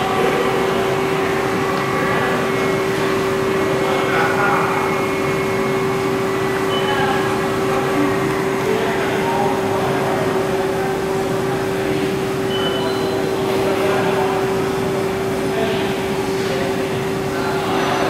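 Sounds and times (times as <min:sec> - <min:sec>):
machine shop equipment hum: 0:00.0 - 0:18.0.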